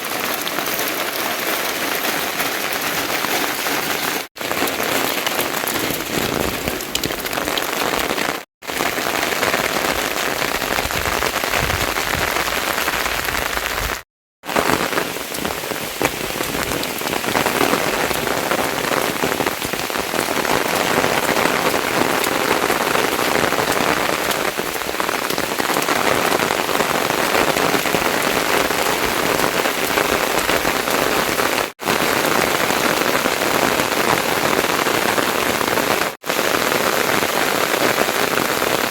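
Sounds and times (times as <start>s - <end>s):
loud steady rain: 0.0s - 38.9s.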